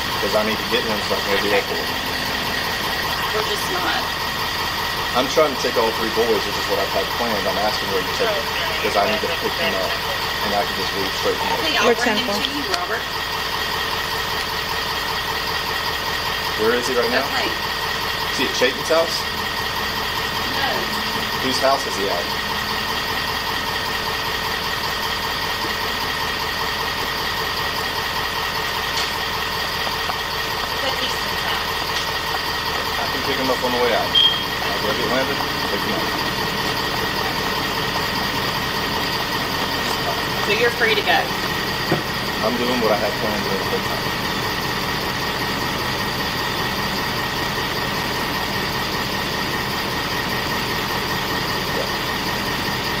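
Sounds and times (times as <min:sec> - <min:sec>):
engine hum with high whine: 0:00.0 - 0:53.0.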